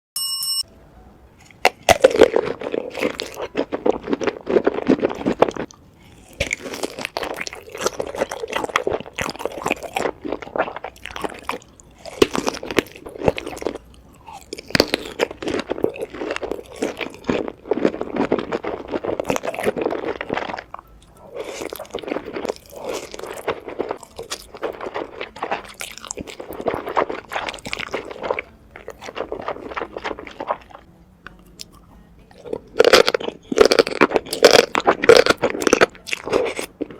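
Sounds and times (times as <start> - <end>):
person chewing and crunching food: 1.4 - 36.9.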